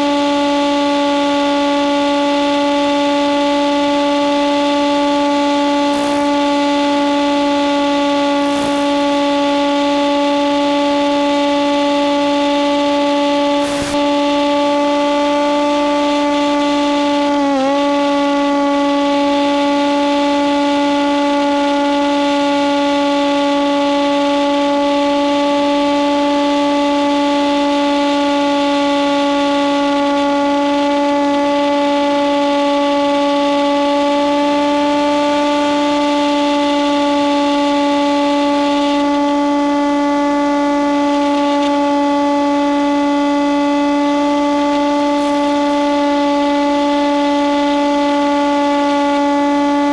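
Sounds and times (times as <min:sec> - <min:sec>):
electric motor whining drone: 0:00.0 - 0:49.9.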